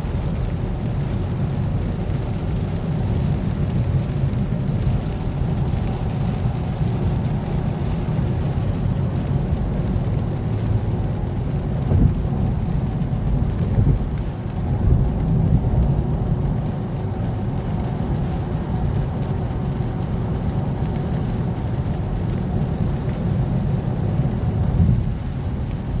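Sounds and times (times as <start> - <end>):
continuous low rumble: 0.0 - 26.0
heavy rain falling: 0.0 - 26.0.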